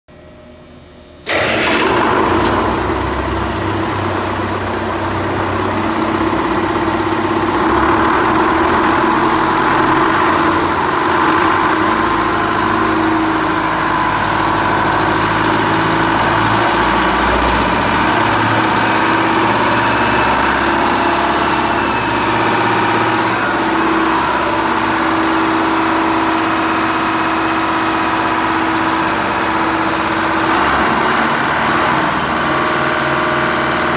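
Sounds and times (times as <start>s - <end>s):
diesel engine starting and running: 0.3s - 33.9s.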